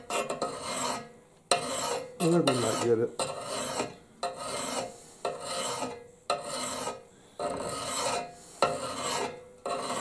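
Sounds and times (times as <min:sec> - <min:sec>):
file scraping steel axe edge: 0:00.0 - 0:10.0.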